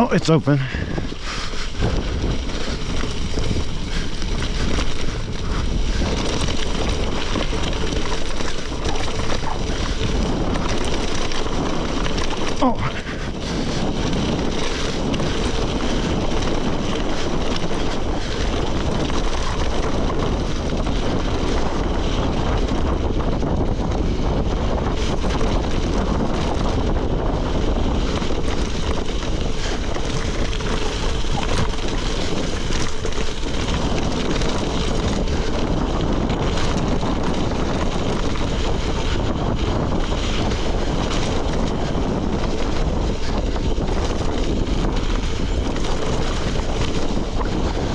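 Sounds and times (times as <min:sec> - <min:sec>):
tyres rumbling on gravel: 0:00.0 - 0:47.9
wind rush on microphone: 0:00.0 - 0:47.9.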